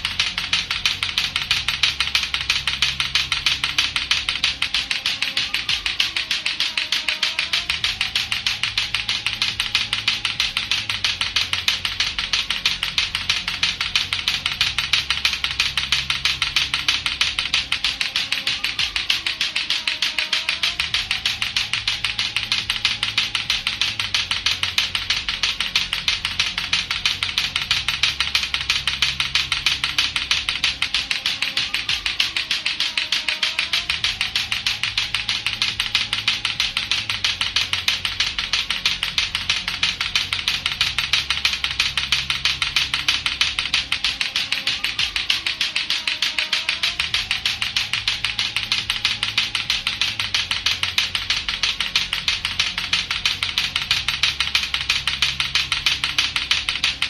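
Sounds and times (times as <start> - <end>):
plastic balls clacking together: 0.0 - 57.0.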